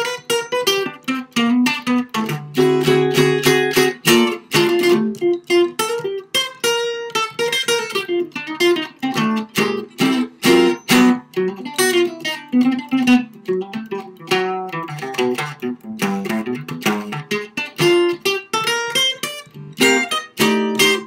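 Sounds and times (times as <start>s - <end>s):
solo jazz guitar: 0.0s - 21.0s.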